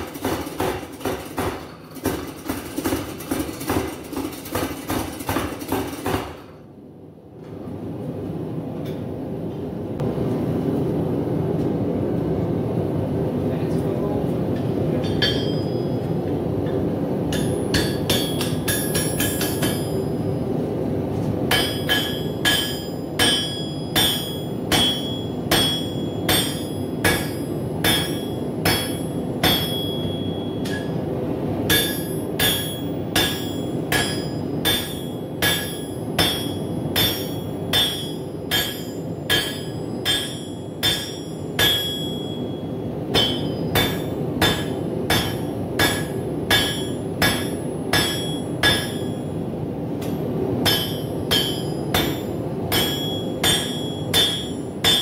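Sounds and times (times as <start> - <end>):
hammer striking steel on anvil: 0.0 - 6.6, 14.6 - 20.2, 21.5 - 31.1, 31.7 - 49.4, 50.0 - 55.0.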